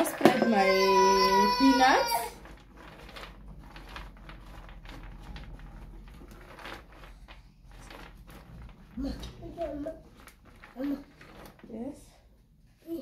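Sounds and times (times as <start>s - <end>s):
peanuts rattling on metal tray: 0.0s - 12.2s.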